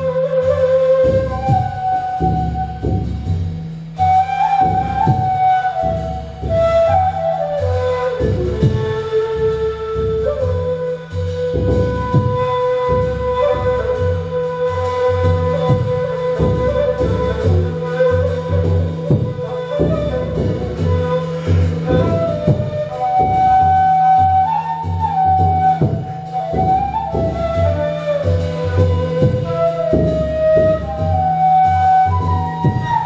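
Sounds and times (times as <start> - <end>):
deep drum strokes: 0.0 - 33.0
end-blown flute melody: 0.0 - 33.0.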